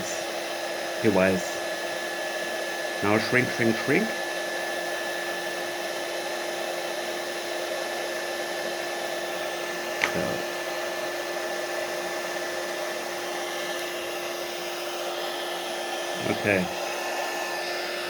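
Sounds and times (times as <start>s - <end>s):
heat gun blowing air: 0.0s - 18.0s.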